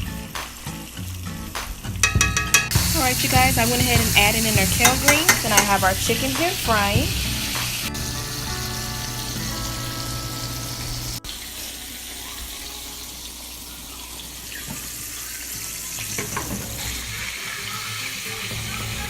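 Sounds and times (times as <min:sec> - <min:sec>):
chicken sizzling in hot grease: 0:00.0 - 0:19.0
soft background music: 0:00.0 - 0:19.0.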